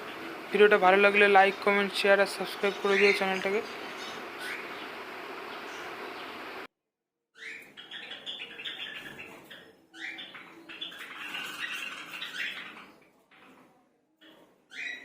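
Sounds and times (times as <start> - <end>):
cage birds chirping and squawking: 0.0 - 6.6, 7.4 - 15.0.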